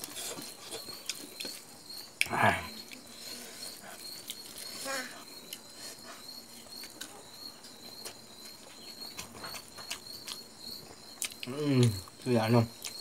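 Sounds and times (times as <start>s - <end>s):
chewing: 0.0s - 13.0s
crickets chirping: 0.0s - 13.0s.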